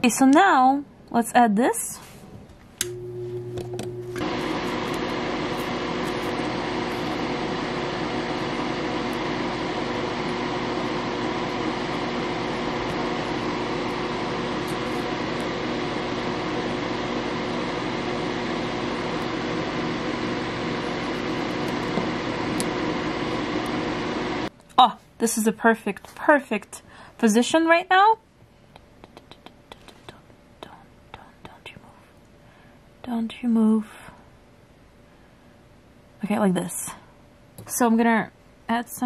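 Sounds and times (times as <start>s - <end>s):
electric fan humming: 0.0s - 39.0s.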